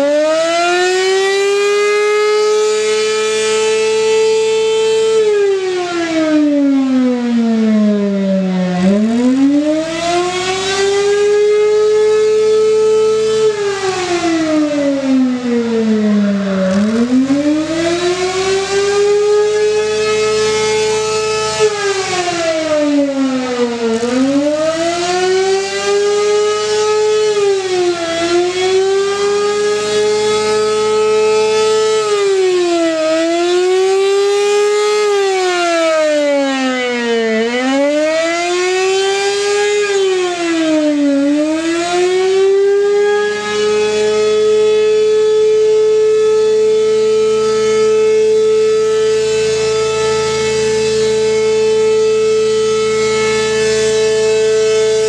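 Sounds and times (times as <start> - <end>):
siren wailing: 0.0 - 55.0.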